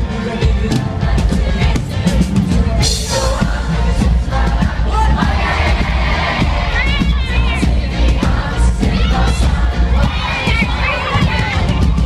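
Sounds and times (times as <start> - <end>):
bass guitar: 0.0 - 12.0
drums: 0.0 - 12.0
live pop-rock band playing: 0.0 - 12.0.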